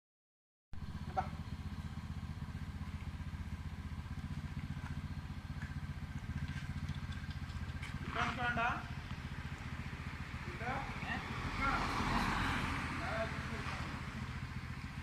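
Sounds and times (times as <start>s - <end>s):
vehicle engine running: 0.8s - 15.0s.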